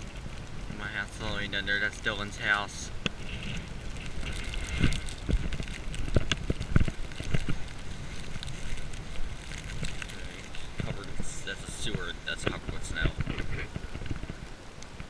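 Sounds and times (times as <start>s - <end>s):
wind rumble on microphone: 0.0s - 15.0s
footsteps crunching through snow: 2.0s - 14.4s.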